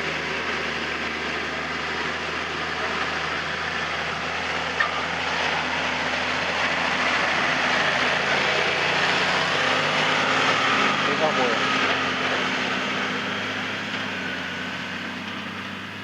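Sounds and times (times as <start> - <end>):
harvester mechanical noise: 0.0 - 16.0
tractor engine running: 0.0 - 16.0.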